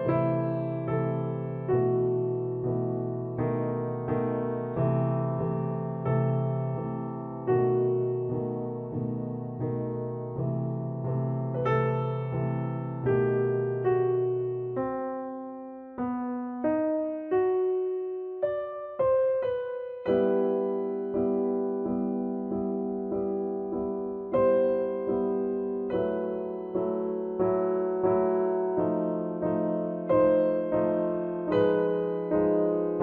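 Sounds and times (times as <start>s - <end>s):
soft piano music: 0.0s - 33.0s.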